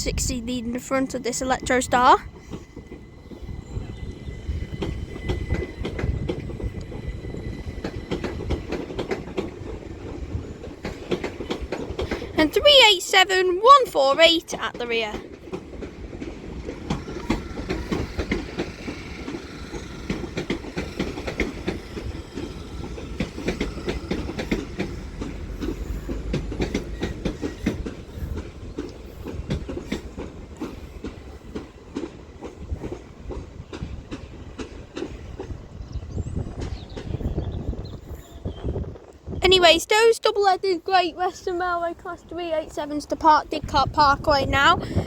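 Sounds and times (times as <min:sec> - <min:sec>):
train low rumble: 0:00.0 - 0:45.0
train wheels clattering over rail joints: 0:01.7 - 0:38.4.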